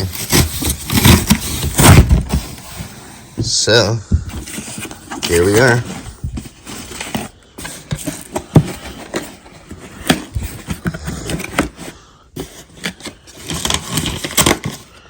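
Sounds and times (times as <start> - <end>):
cardboard box being handled: 0.0 - 14.9.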